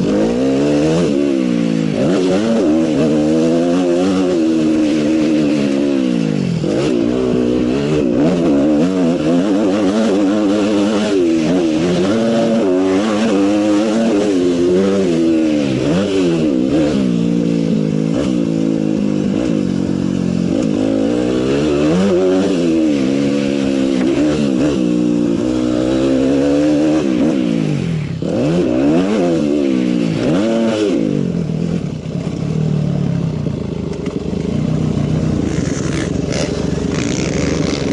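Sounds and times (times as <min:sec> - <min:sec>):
motorcycle engines revving: 0:00.0 - 0:37.9.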